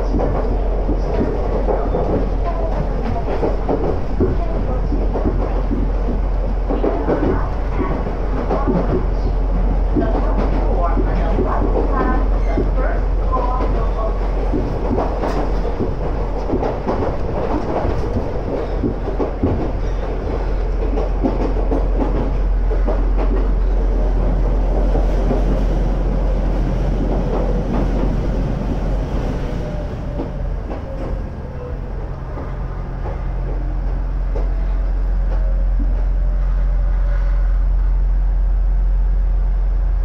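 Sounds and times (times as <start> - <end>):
railcar running rumble: 0.0 - 40.0.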